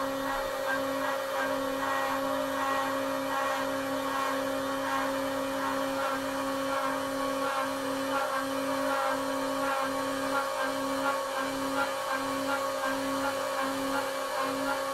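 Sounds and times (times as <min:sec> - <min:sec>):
spindle motor whining: 0:00.0 - 0:14.9.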